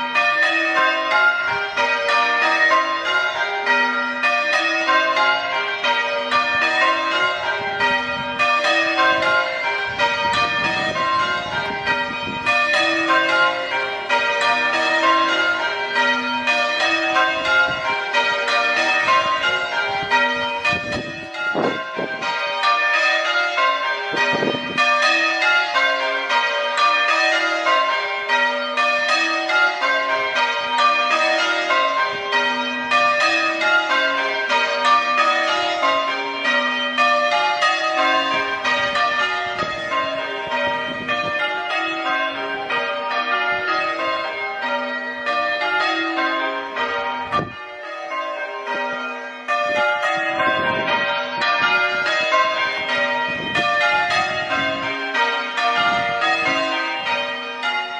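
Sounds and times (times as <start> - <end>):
church bells change ringing: 0.0 - 57.9.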